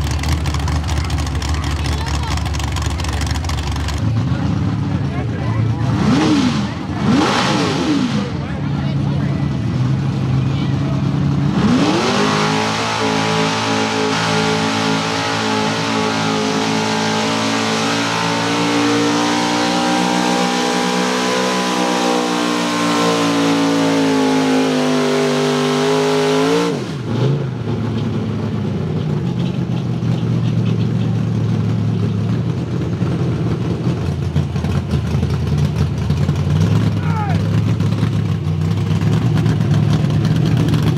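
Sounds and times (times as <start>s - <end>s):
truck engine revving at full throttle: 0.0s - 40.9s.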